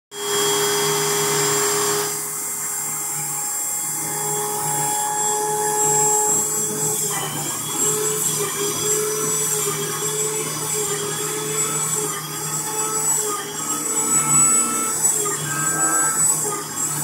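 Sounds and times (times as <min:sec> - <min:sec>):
cnc spindle whine drilling: 0:00.1 - 0:17.0.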